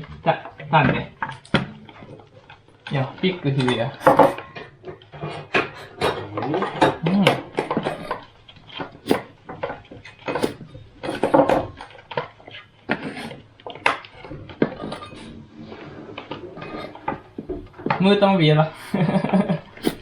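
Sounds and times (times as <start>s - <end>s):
dishes and utensils clattering: 0.0s - 20.0s.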